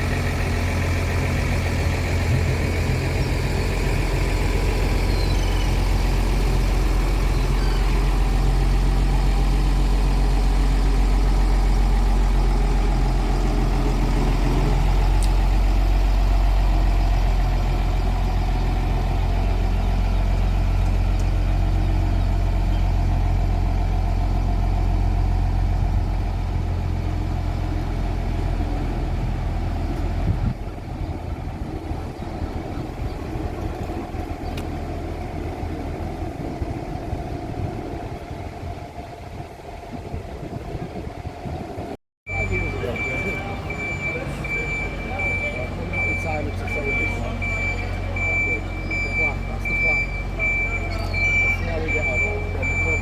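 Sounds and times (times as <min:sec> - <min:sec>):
heavy machinery humming: 0:00.0 - 0:53.0.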